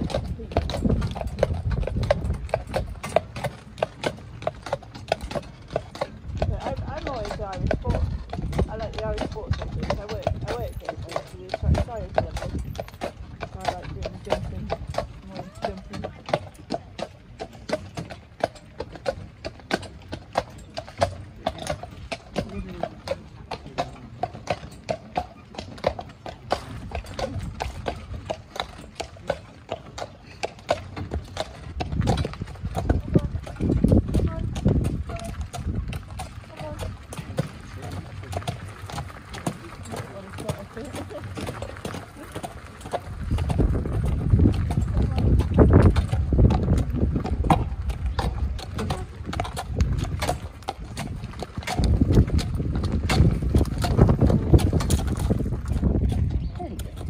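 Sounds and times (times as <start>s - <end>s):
cart wheels rumbling on gravel: 0.0s - 57.0s
horse hooves clip-clopping on concrete: 0.0s - 57.0s.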